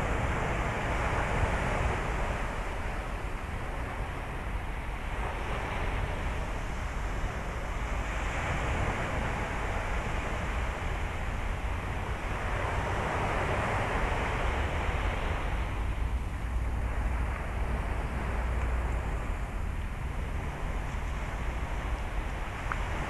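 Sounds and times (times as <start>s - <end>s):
surf washing up a beach: 0.0s - 23.0s
wind rumble on microphone: 0.0s - 23.0s.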